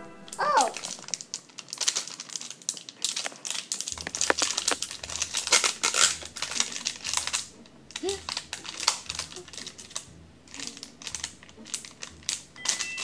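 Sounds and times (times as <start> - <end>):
foil packet crinkling: 0.3 - 13.0.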